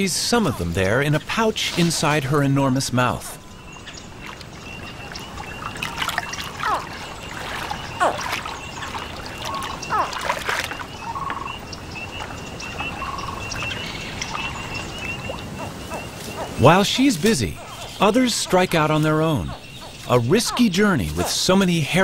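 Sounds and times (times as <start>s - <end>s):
water trickling: 0.0s - 22.0s.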